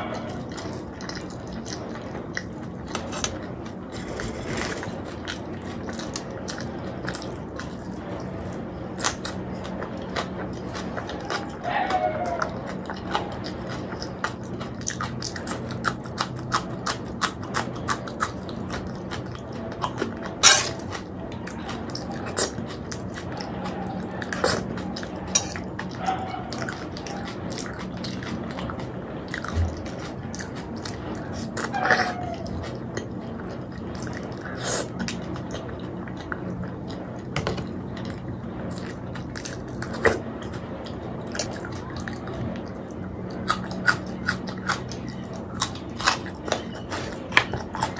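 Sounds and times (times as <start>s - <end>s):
wet chewing with mouth clicks: 0.0s - 47.9s.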